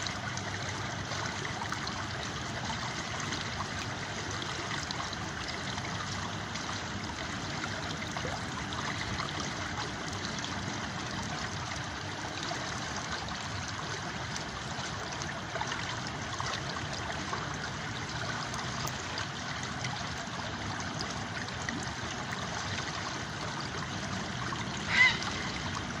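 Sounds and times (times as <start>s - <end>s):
river flowing: 0.0s - 26.0s.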